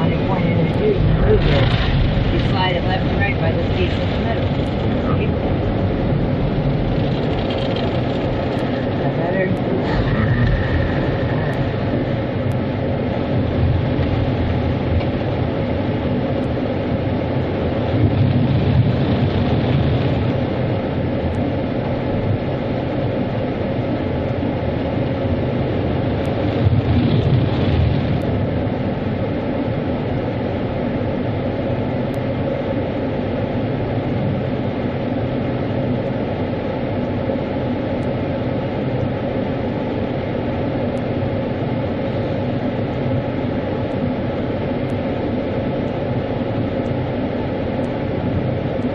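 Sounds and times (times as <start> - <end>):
car wash machinery rumbling: 0.0 - 48.9.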